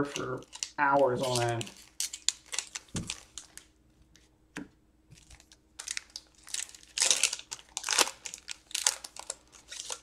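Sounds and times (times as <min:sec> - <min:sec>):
foil wrapper crinkling: 0:00.0 - 0:03.7, 0:05.1 - 0:10.0.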